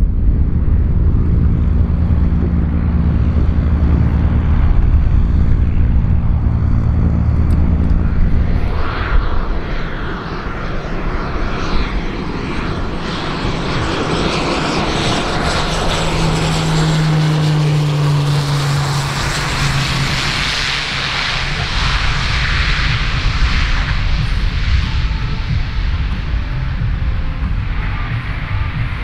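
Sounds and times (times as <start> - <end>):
turboprop aircraft passing low: 0.0 - 29.0.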